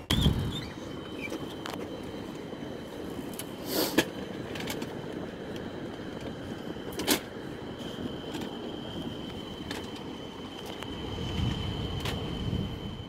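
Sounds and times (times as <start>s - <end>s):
helicopter turbine running: 0.0s - 13.0s.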